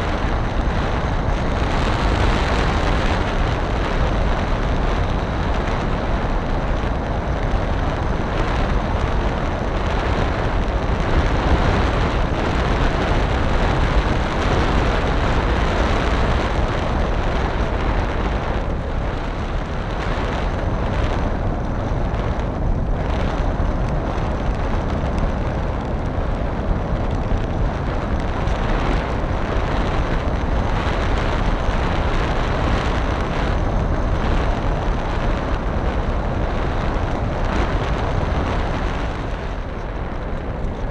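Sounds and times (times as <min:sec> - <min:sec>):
wind and propeller rush: 0:00.0 - 0:40.9.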